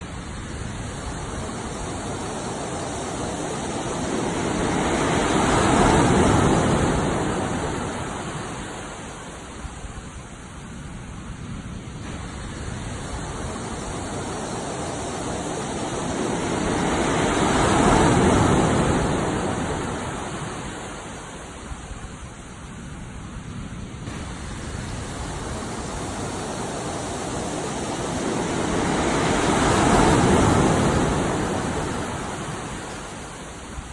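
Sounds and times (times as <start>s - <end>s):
ocean waves washing in: 0.0s - 33.9s.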